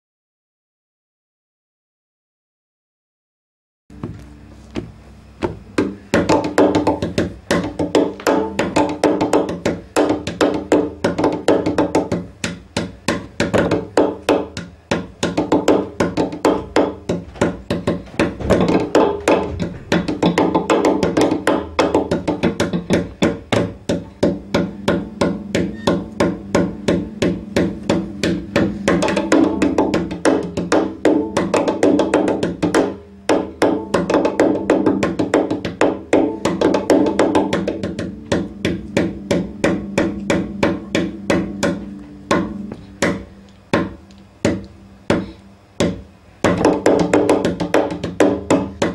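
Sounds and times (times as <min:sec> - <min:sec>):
wooden knocks on cello: 0:03.9 - 0:48.9.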